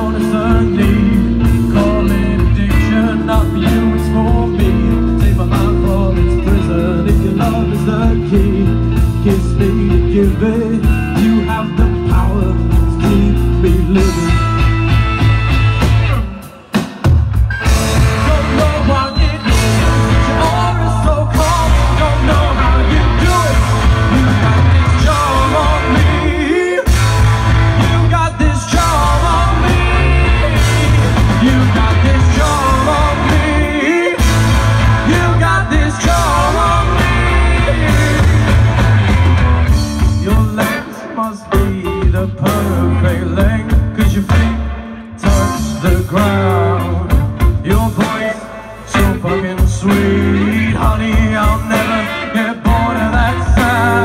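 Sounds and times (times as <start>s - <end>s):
person singing: 0.0s - 14.7s, 17.9s - 38.9s, 40.0s - 54.0s
electric guitar: 0.0s - 54.0s
heavy bass line: 0.0s - 54.0s
keyboard: 0.0s - 54.0s.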